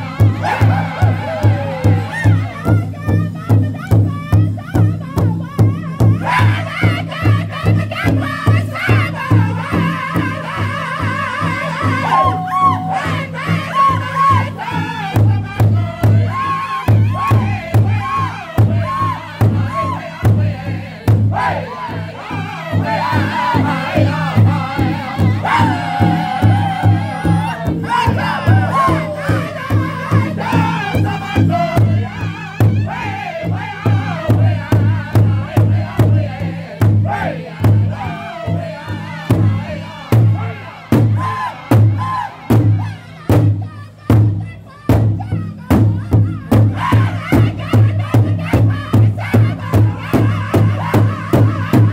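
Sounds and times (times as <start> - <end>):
large drum beating: 0.0 - 51.9
men singing together: 0.0 - 51.9.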